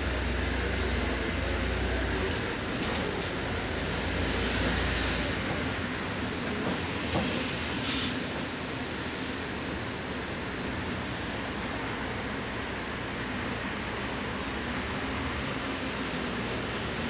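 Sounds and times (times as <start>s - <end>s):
bus interior running noise: 0.0s - 17.0s.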